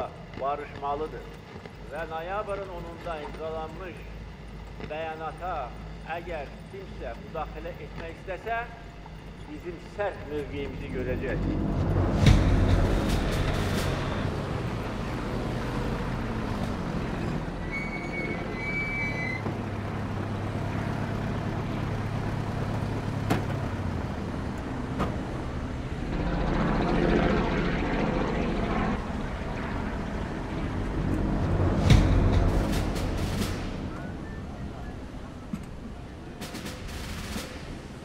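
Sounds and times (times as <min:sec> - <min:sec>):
off-road vehicle engines running: 0:00.0 - 0:38.0.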